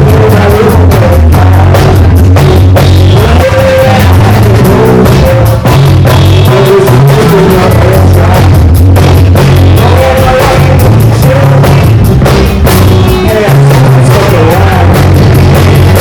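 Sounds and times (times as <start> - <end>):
drum kit fast beat: 0.0 - 16.0
live rock band playing: 0.0 - 16.0.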